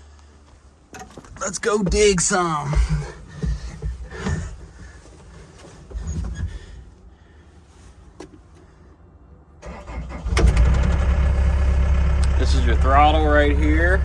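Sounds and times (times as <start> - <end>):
diesel excavator engine idling: 0.0 - 7.6, 10.1 - 14.0.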